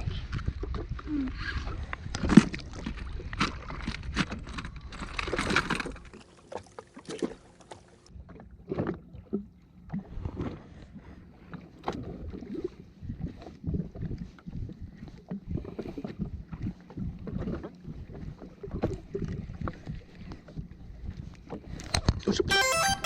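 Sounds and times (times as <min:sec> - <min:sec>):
water splashing against hull: 0:01.6 - 0:21.8.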